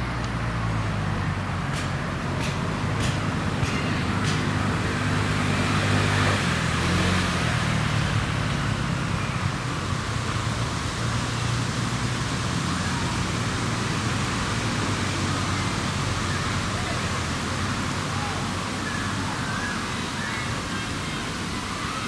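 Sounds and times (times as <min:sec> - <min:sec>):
low engine hum: 0:00.0 - 0:22.0
road traffic noise: 0:00.0 - 0:22.0.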